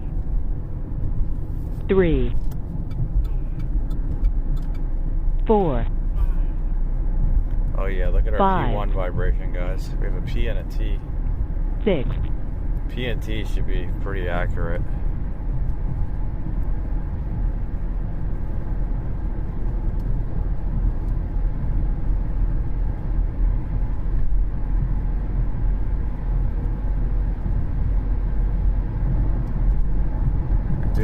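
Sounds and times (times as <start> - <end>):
car cabin road rumble: 0.0 - 31.0.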